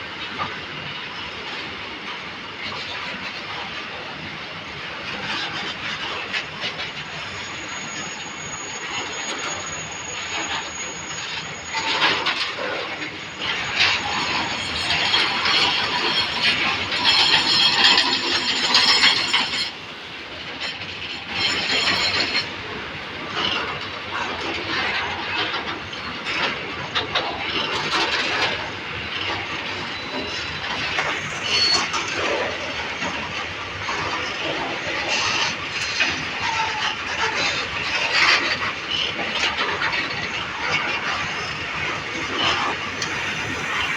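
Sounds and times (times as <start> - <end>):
train wheels clattering on rails: 0.0 - 43.9.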